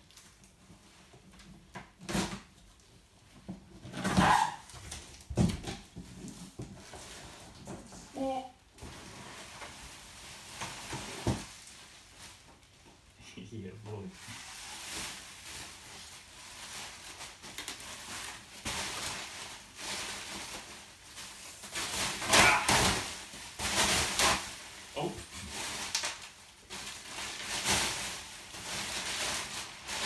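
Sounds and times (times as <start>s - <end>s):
bubble wrap and plastic crinkling: 0.0s - 30.0s.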